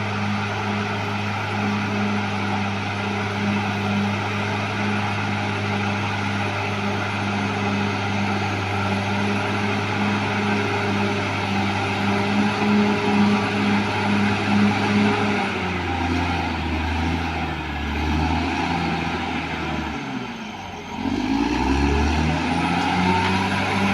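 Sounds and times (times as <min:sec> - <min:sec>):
bulldozer diesel engine running: 0:00.0 - 0:23.9.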